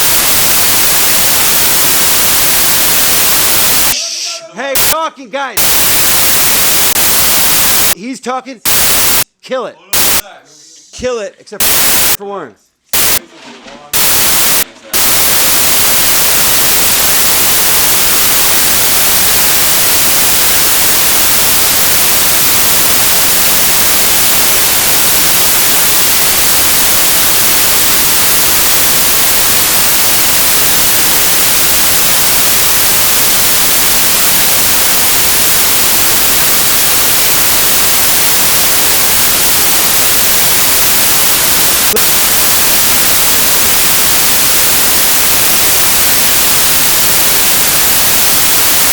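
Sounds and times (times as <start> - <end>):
white noise static hiss: 0.0 - 5.0, 5.6 - 8.0, 8.6 - 9.2, 9.9 - 10.2, 11.6 - 12.2, 12.8 - 13.2, 14.0 - 48.9.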